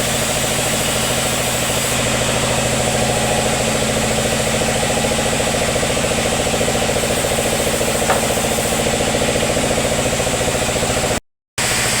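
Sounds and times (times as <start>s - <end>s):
engine running with fast pulse: 0.0s - 12.0s.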